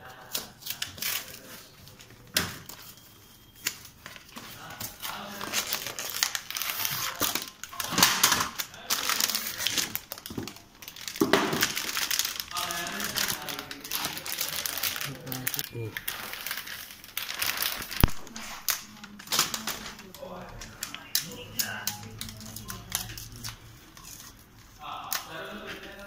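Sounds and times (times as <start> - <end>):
plastic bag crinkling: 3.8 - 26.0.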